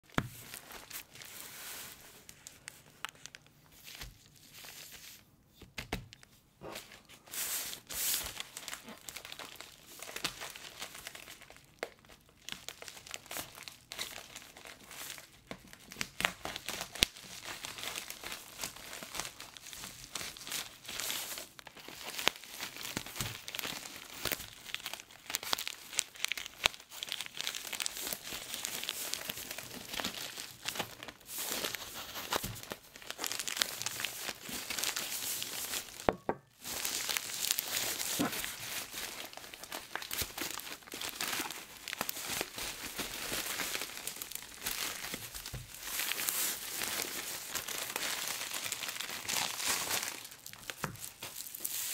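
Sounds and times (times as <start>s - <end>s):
plastic mailer bag crinkling: 6.9s - 51.9s.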